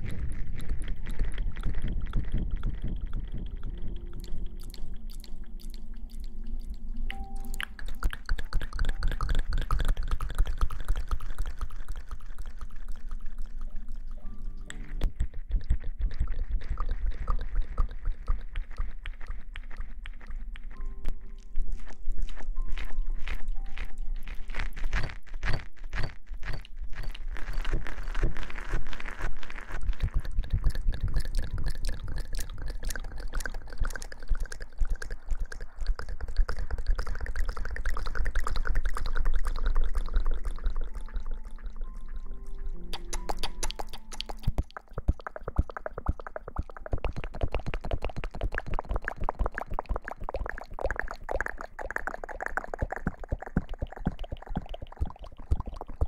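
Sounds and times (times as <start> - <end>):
lip and tongue clicks: 0.0 - 27.8, 29.8 - 56.0.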